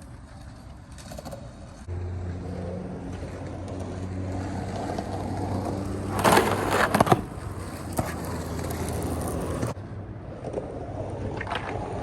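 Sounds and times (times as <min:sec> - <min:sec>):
skateboard clacks and scraping: 0:00.0 - 0:12.0
skateboard wheels rolling on concrete: 0:00.0 - 0:12.0.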